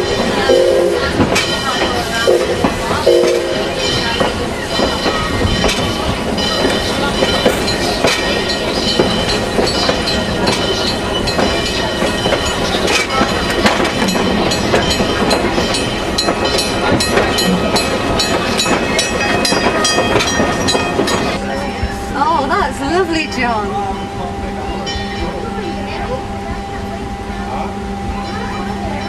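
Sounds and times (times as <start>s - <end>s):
train wheels clattering on rails: 0.0s - 23.3s.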